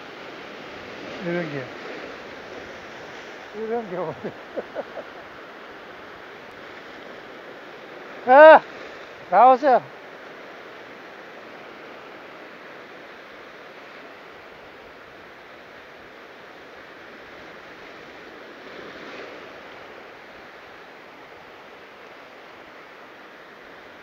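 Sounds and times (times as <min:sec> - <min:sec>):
ocean surf on rocky shore: 0:00.0 - 0:24.0.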